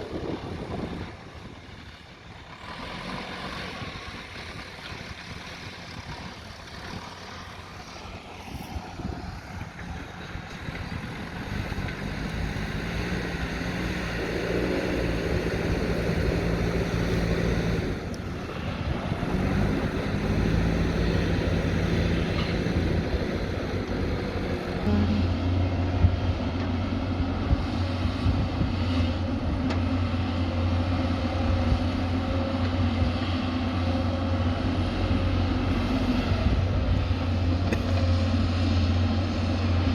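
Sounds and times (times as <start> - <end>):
diesel excavator engine: 0.0 - 39.9.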